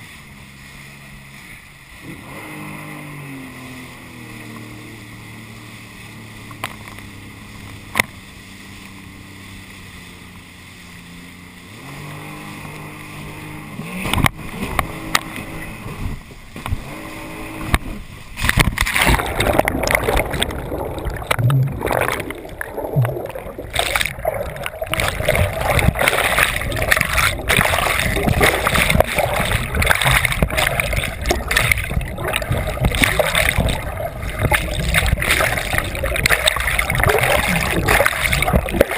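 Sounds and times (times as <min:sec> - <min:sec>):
churning water splashing: 0:00.0 - 0:38.9
jet ski engine humming: 0:00.0 - 0:38.9.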